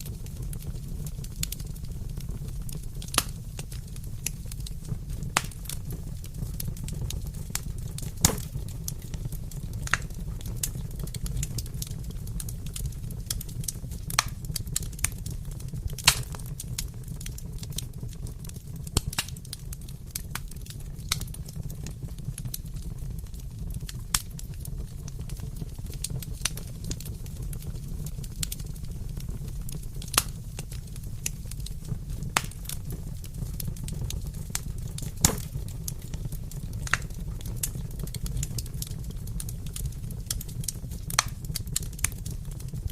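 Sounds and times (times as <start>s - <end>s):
fire popping and snapping: 0.0s - 42.9s
fire rumbling: 0.0s - 42.9s.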